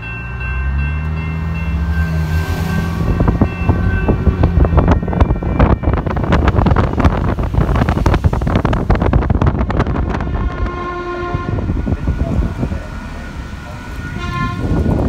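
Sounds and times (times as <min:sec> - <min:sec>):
steady tone: 0:00.0 - 0:15.0
wind buffeting microphone: 0:00.4 - 0:15.0.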